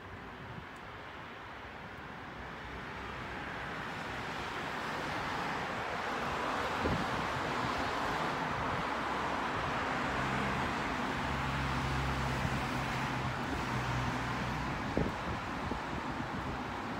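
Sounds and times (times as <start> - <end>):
road traffic noise: 0.0 - 16.9.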